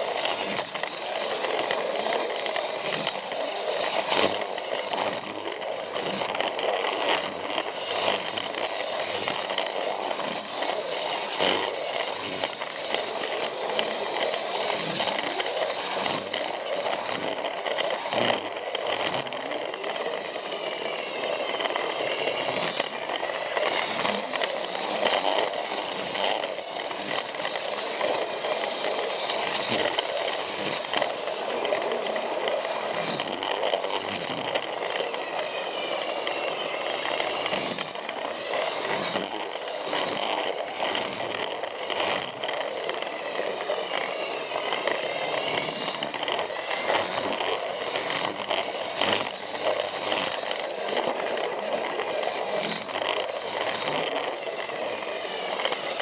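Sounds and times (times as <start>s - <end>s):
toy train motor whirring: 0.0s - 56.0s
wheels clicking over rail joints: 0.0s - 56.0s.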